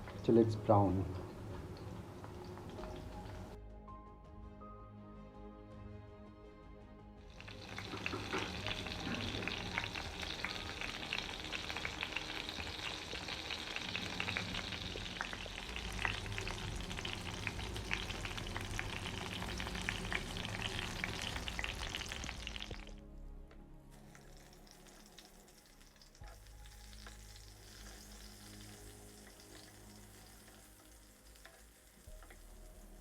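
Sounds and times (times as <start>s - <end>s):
eggplant sizzling in oil: 1.3s - 3.6s, 7.3s - 22.9s, 24.0s - 33.0s.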